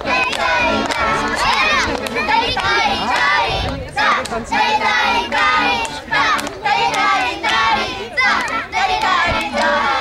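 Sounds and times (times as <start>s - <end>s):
children singing in unison: 0.0s - 10.0s.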